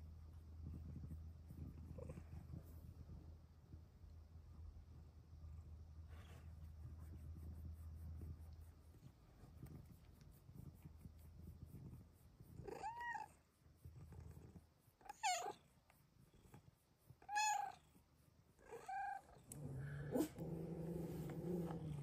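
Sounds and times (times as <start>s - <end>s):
kitten purring: 0.0s - 22.0s.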